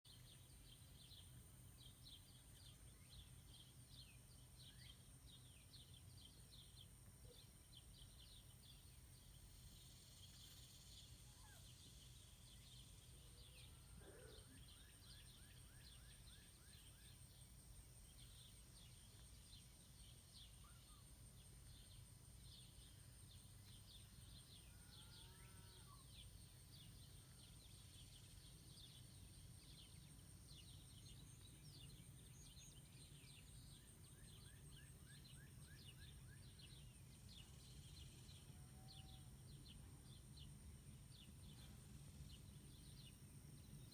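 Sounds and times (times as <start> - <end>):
small birds chirping: 0.1 - 43.9.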